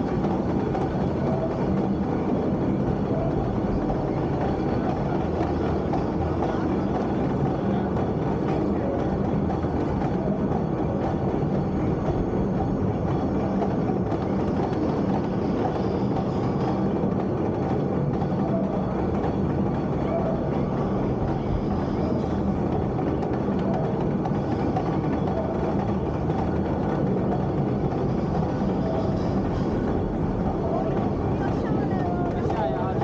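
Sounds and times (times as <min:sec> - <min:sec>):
lift conveyor rumbling and clattering: 0:00.0 - 0:33.0.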